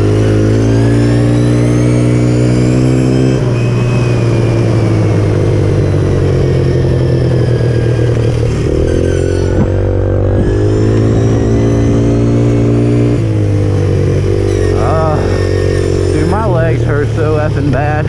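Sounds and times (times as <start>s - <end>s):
small motorbike engine running: 0.0s - 18.0s.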